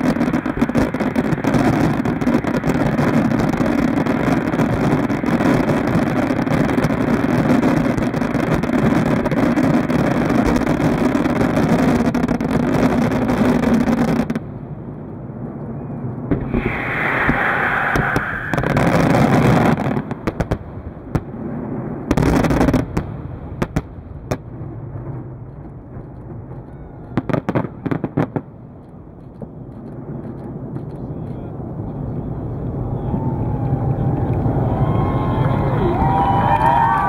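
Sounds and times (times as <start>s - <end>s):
fireworks bursts and crackling: 0.0s - 37.0s
sharp fireworks bangs: 0.0s - 37.0s.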